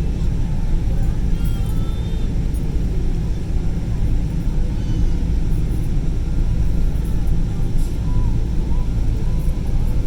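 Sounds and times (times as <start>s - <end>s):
aircraft engines at taxi thrust: 0.0s - 10.0s.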